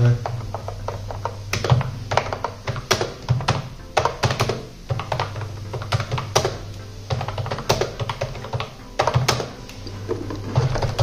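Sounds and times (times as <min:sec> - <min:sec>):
background music: 0:00.0 - 0:11.0
keyboard keys clacking: 0:00.0 - 0:11.0.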